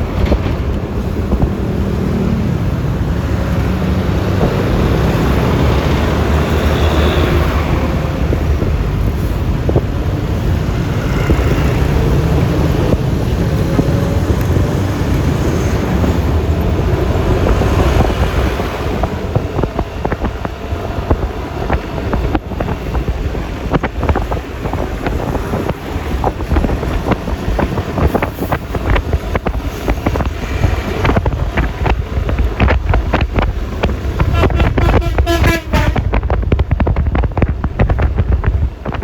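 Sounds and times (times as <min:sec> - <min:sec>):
scooter road noise: 0:00.0 - 0:39.0
wind buffeting crackles: 0:00.0 - 0:39.0
wind rushing over microphone: 0:00.0 - 0:39.0.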